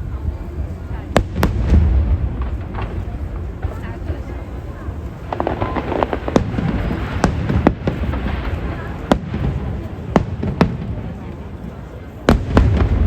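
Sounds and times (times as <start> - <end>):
fireworks crackling: 0.1 - 13.0
fireworks bangs: 0.9 - 13.0.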